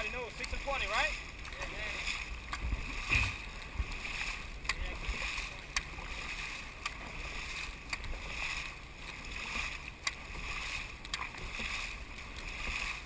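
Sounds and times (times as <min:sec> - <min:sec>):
paddles splashing through water: 0:00.0 - 0:13.0.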